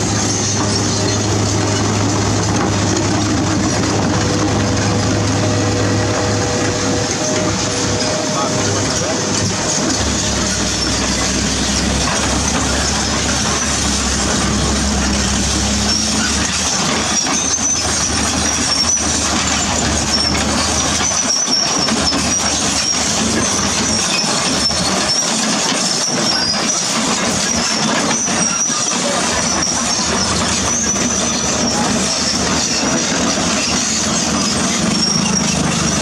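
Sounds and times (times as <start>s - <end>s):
diesel engines running: 0.0s - 36.0s
steel tracks clanking: 0.0s - 36.0s
track links squealing: 0.0s - 36.0s.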